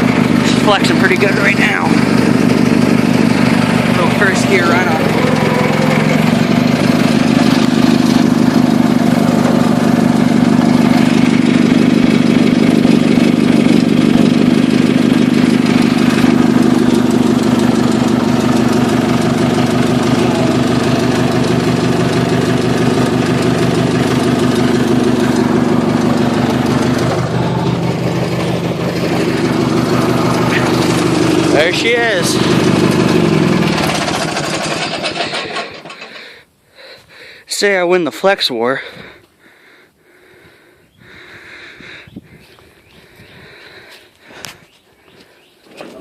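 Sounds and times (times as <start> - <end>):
tractor engine running under load: 0.0 - 36.5, 40.2 - 46.0.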